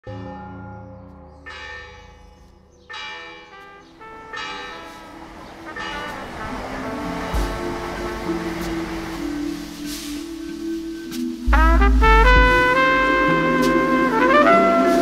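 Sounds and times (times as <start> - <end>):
church bell tolling: 0.0 - 10.7, 11.5 - 15.0.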